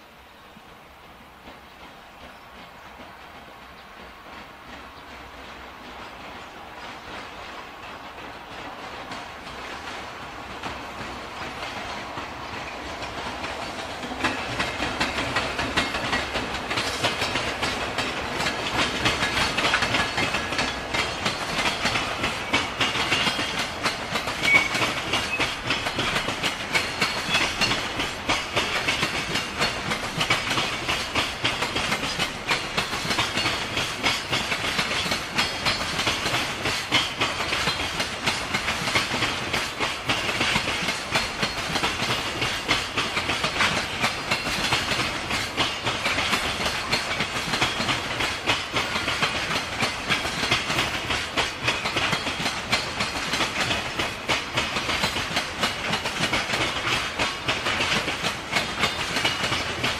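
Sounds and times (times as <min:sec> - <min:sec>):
train wheels clattering over joints: 0:00.5 - 0:59.9.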